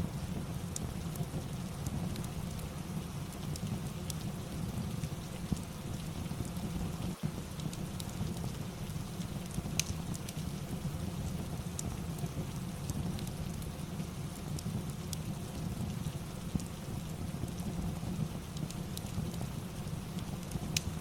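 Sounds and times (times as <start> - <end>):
fire crackling and popping: 0.0 - 21.0
steady rain: 0.0 - 21.0.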